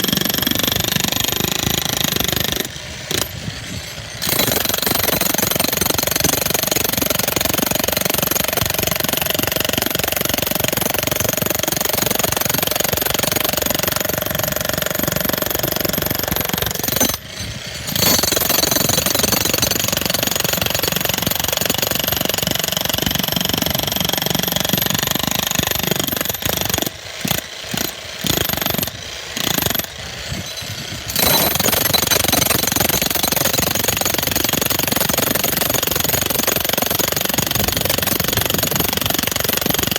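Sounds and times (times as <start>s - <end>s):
jackhammer breaking concrete: 0.0s - 39.9s.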